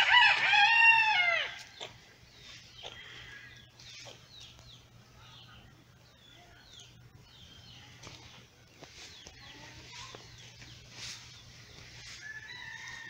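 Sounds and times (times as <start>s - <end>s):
chickens chirping and clucking: 1.4s - 13.0s.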